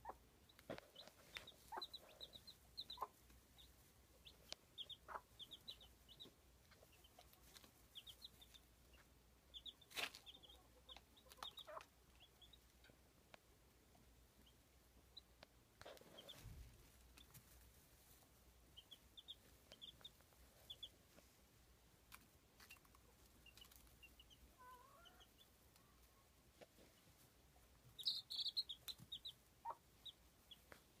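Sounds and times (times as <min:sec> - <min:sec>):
baby chicks peeping: 0:00.0 - 0:31.0.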